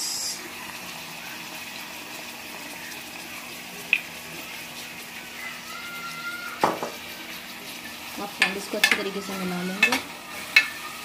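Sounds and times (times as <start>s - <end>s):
vegetables frying in oil: 0.0s - 11.0s.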